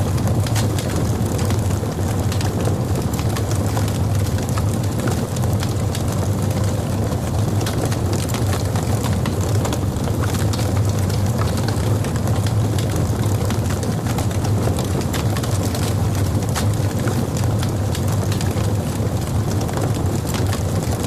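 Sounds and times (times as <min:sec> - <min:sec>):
fire low rumble: 0:00.0 - 0:21.0
logs crackling and popping: 0:00.0 - 0:21.0.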